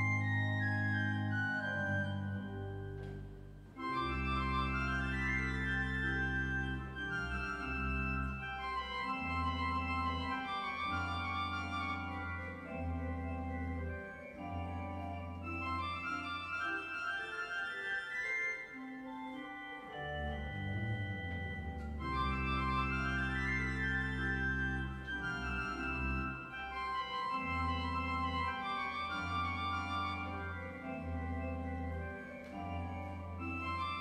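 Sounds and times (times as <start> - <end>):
church pipe organ chords: 0.0 - 34.0.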